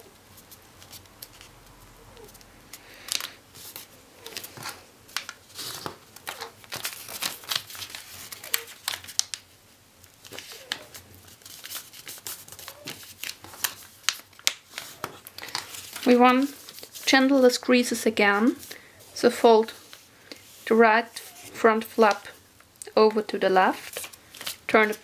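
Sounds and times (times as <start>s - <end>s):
paper rustling and crinkling: 0.3s - 22.4s, 23.6s - 25.0s.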